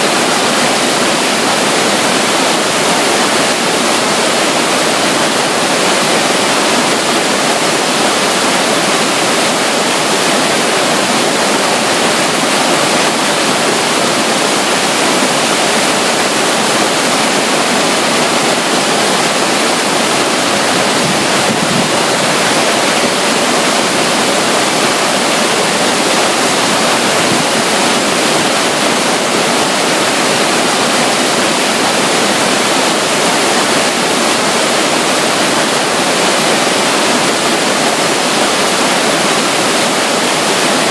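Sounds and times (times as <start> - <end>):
water rushing and falling: 0.0 - 40.9.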